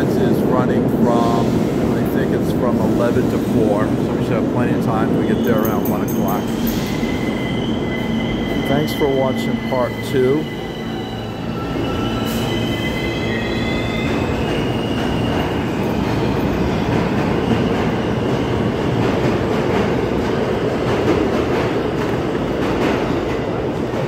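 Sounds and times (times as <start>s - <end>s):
standing train rumbling: 0.0s - 24.0s
subway wheels squealing: 1.0s - 24.0s.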